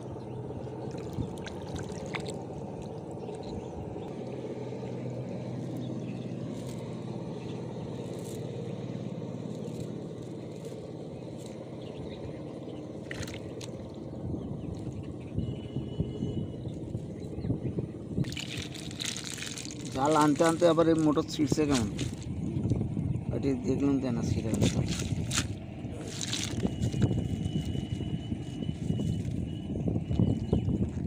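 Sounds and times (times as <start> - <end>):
river water lapping and sloshing: 0.0 - 17.3, 17.9 - 22.6, 24.5 - 29.7
steady low hum: 0.0 - 31.0.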